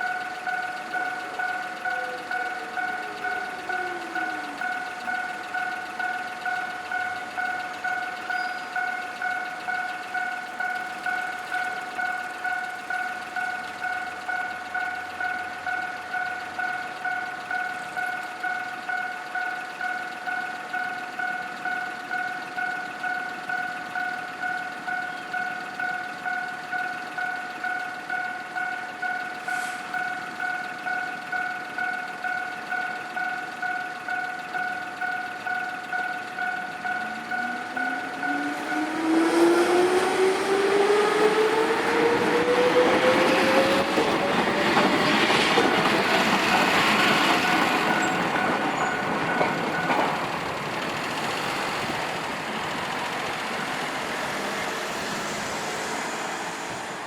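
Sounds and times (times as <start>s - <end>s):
level crossing warning bell ringing: 0.0s - 56.8s.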